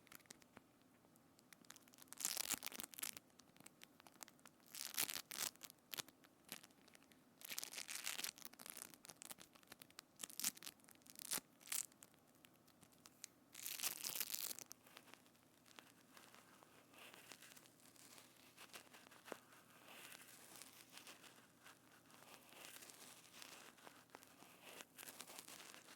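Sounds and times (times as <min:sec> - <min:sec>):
crackling and crinkling: 0:00.0 - 0:25.9.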